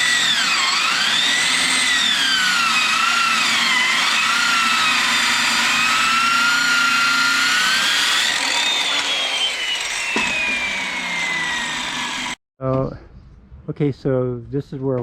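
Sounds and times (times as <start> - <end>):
power saw cutting wood: 0.0 - 12.4.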